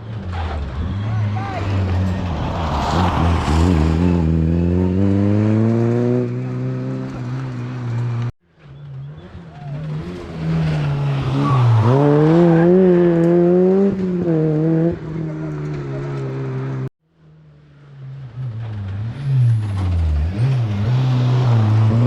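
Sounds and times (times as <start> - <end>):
rally car engine accelerating: 0.0 - 22.0.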